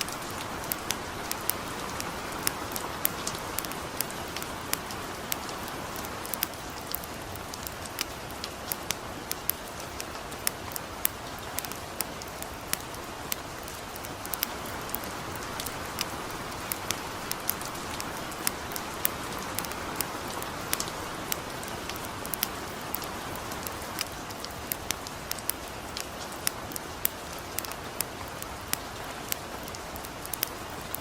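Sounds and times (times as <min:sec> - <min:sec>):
campfire crackling: 0:00.0 - 0:31.0
gentle rain falling: 0:00.0 - 0:31.0.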